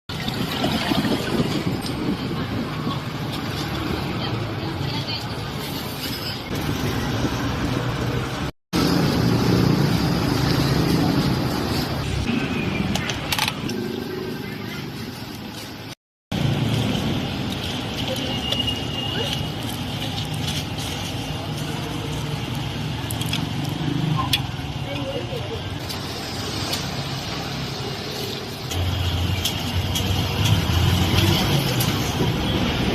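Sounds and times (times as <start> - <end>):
rumbling street traffic: 0.1 - 32.9.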